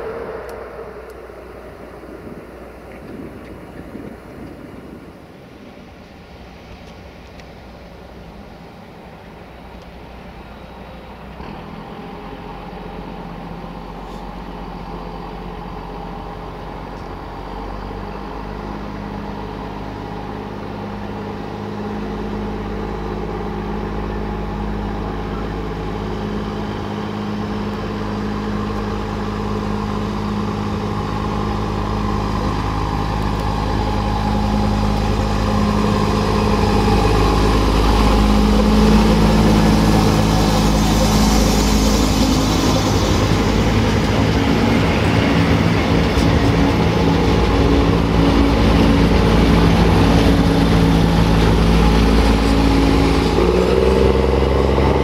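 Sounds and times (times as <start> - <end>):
diesel railcar engine running: 0.0 - 55.0.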